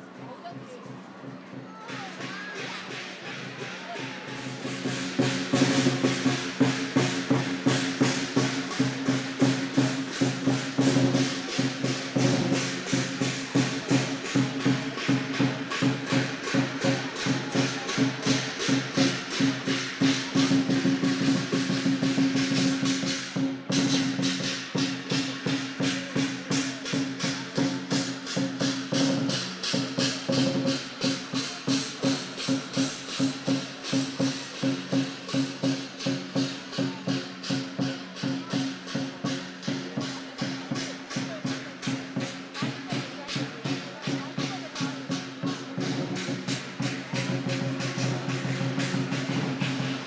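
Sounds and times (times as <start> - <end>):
drum beating: 0.0 - 50.0
cymbals clashing: 1.9 - 50.0.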